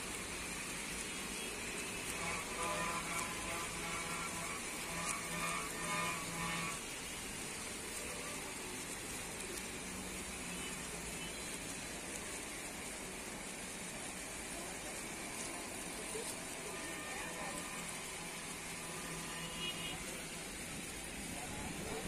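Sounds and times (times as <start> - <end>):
rain falling: 0.0 - 22.0
tyres hissing on wet road: 0.0 - 22.0.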